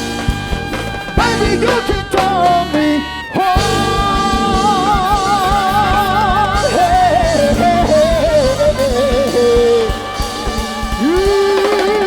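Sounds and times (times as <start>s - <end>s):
drum beat: 0.0s - 2.8s, 3.5s - 12.0s
guitar: 0.0s - 12.0s
held wavering vocal note: 1.1s - 12.0s.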